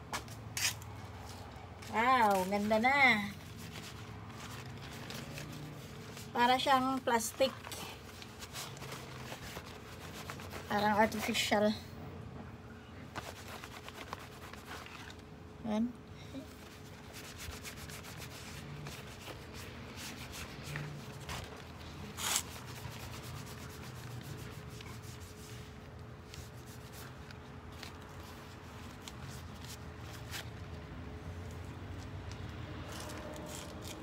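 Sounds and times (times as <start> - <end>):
cloth rubbing on leaves: 0.2 - 11.6, 13.1 - 15.2, 16.4 - 30.6.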